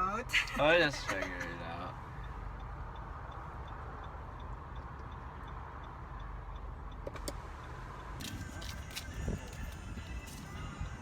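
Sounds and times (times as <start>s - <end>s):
turn signal ticking: 0.0s - 11.0s.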